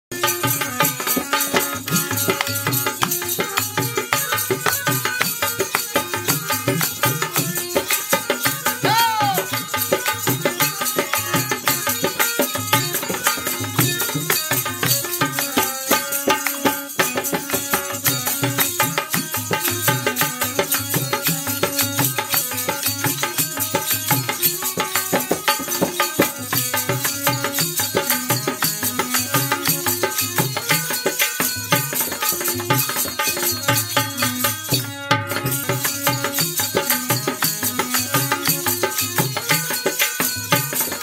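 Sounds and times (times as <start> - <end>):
dholak drum rhythm: 0.1 - 41.0
folk music with drum: 0.1 - 41.0.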